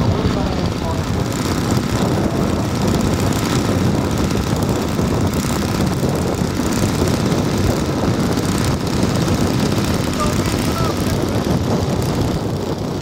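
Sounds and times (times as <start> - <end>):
model aircraft engine: 0.0 - 13.0.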